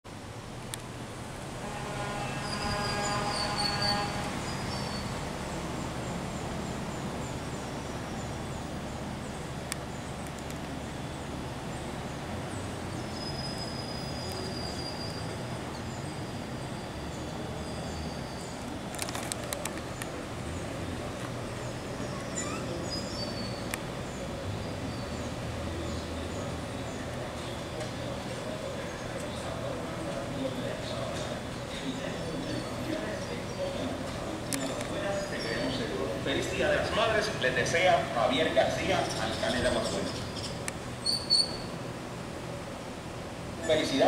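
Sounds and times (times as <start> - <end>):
low traffic hum: 0.0 - 44.0
birds chirping: 2.4 - 42.6.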